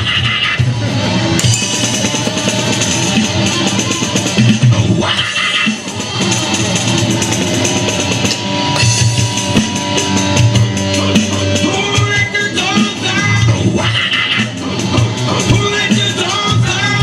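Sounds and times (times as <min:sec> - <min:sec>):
electric guitar: 0:00.0 - 0:17.0
drum kit: 0:00.1 - 0:17.0.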